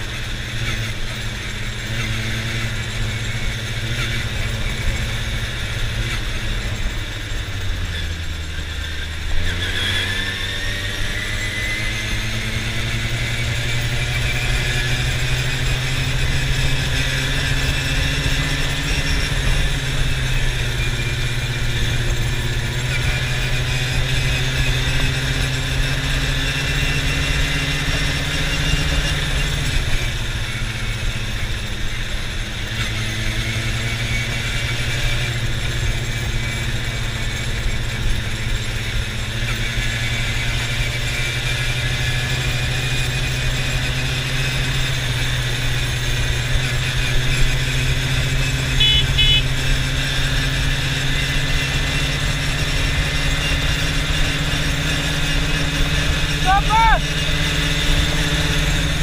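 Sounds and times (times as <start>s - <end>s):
high engine whine: 0.0s - 59.0s
quad bike engine running: 0.0s - 59.0s.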